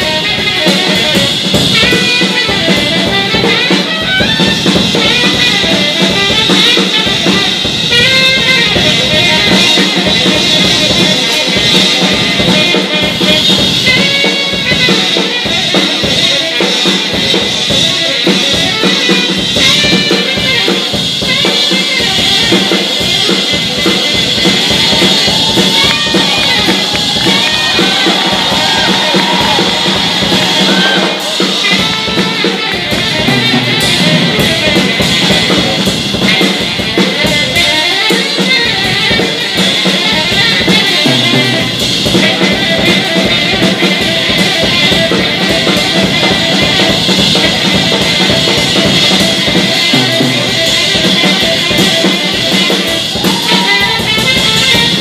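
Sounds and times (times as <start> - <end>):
drum kit playing: 0.0 - 55.0
tenor saxophone melody: 0.0 - 55.0.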